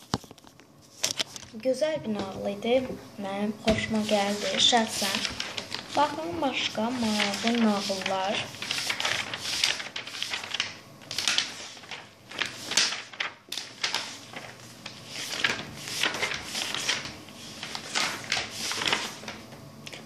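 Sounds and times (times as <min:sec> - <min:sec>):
book pages rustling: 0:00.0 - 0:02.4, 0:03.7 - 0:20.0.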